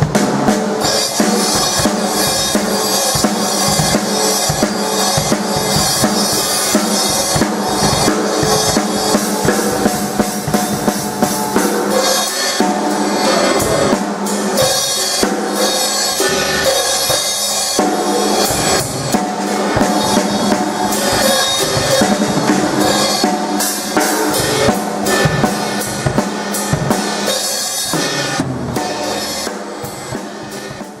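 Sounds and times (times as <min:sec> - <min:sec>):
drum kit playing: 0:00.0 - 0:31.0.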